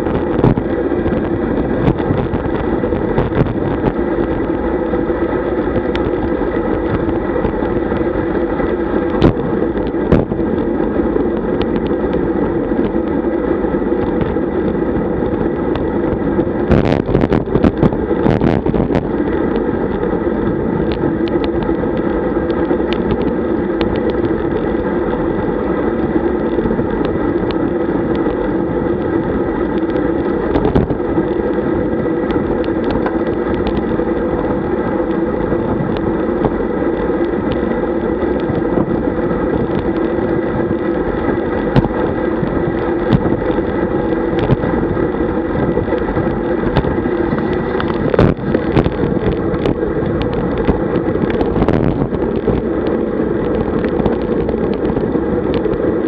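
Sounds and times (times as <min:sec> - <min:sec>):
bicycle clicks: 0:00.0 - 0:56.0
wind and road noise: 0:00.0 - 0:56.0.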